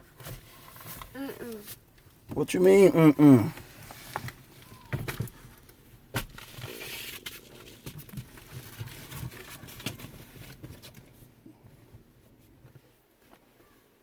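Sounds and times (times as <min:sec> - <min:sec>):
rustling and scraping movement: 0:00.0 - 0:14.0.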